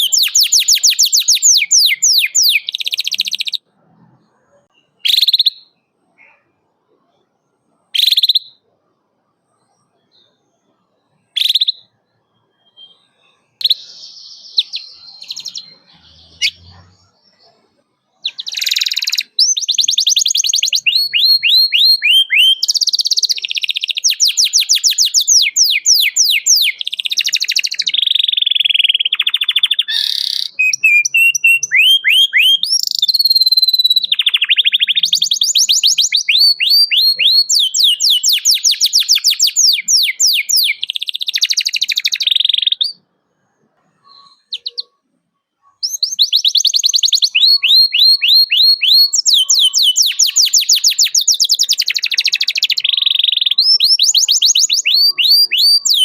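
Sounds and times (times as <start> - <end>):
canary chirping and trilling: 0.0 - 6.6, 9.6 - 43.1, 44.0 - 56.0.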